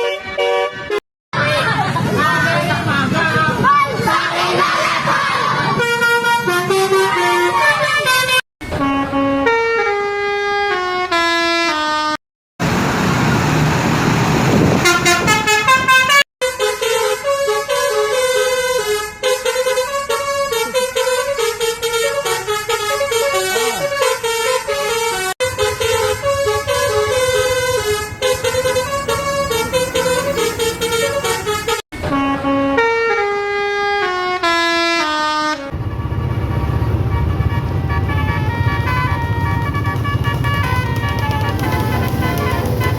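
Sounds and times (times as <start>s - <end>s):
bus musical horns playing tunes: 0.0s - 1.0s, 4.4s - 12.2s, 14.7s - 42.9s.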